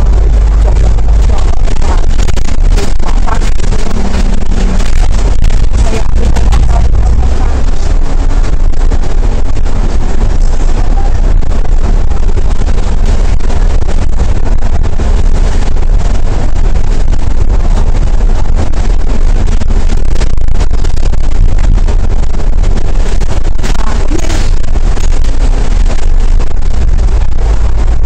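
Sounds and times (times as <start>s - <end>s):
bus engine and road rumble: 0.0s - 28.0s
constant crackle: 0.0s - 28.0s.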